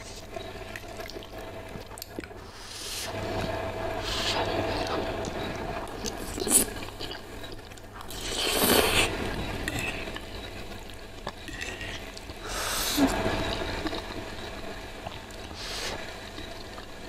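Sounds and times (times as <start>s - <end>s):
wet chewing and slurping noodles: 0.0s - 16.9s.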